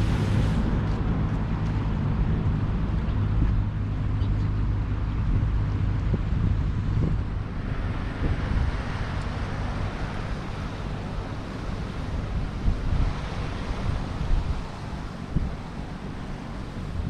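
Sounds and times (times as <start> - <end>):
rushing outdoor noise: 0.0 - 17.0
wind buffeting microphone: 0.0 - 17.0.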